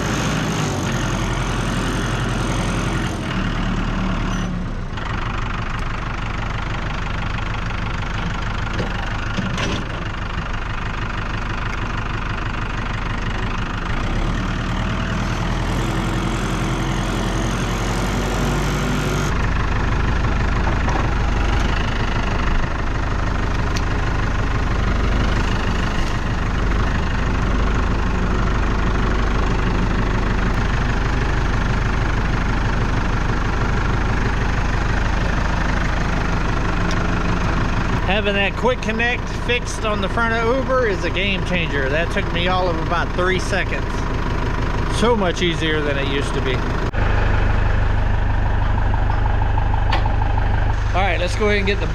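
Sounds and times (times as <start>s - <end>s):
tractor engine idling: 0.0s - 51.9s.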